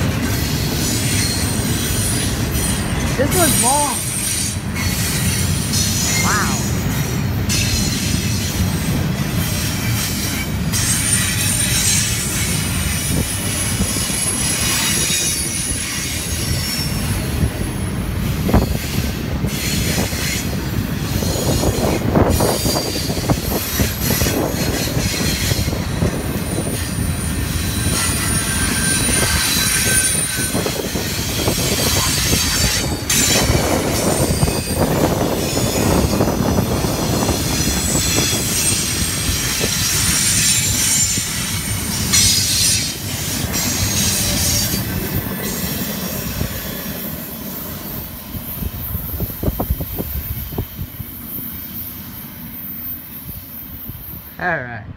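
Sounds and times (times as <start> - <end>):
train wheels rumbling on rail: 0.0 - 54.9
high wheel squeals: 0.1 - 9.0, 9.8 - 54.3.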